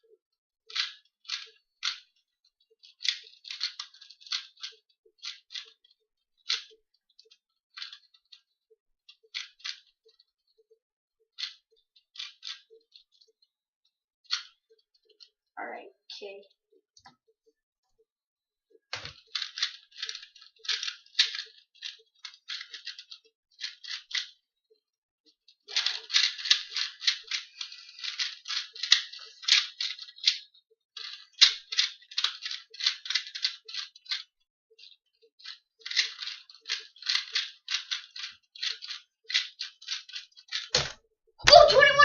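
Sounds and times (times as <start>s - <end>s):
puzzle cube plastic clicks: 0.7s - 8.5s, 9.1s - 10.6s, 11.3s - 13.3s, 14.2s - 15.3s, 18.9s - 24.4s, 25.6s - 42.0s.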